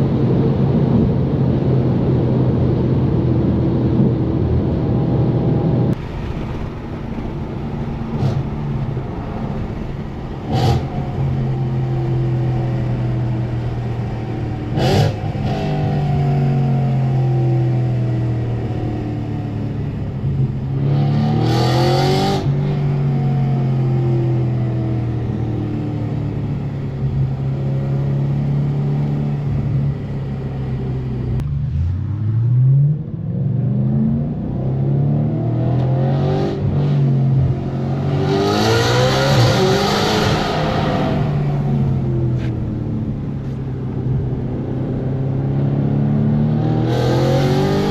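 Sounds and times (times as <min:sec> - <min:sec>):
car engine running hard: 0:00.0 - 0:47.9.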